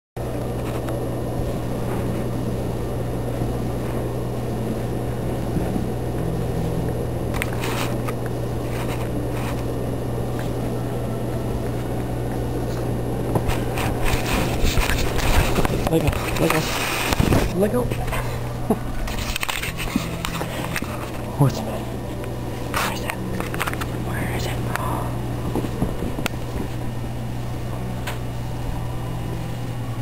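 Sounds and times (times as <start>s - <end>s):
steady low hum: 0.2s - 30.0s.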